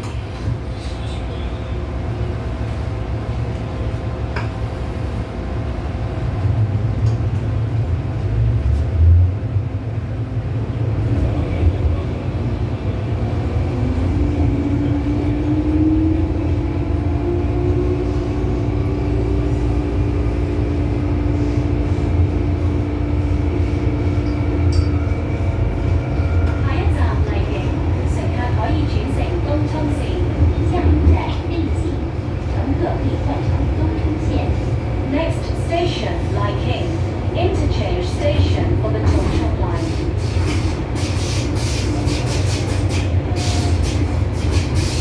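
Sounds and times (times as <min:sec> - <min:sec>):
train running gear rumble: 0:00.0 - 0:45.0.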